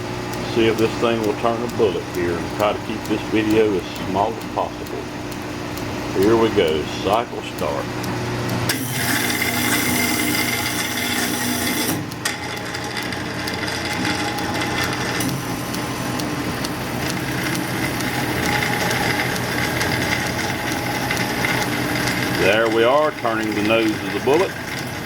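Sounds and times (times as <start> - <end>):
lathe spindle turning: 0.0 - 25.0
stepper-driven tooling cutting lead: 0.2 - 25.0.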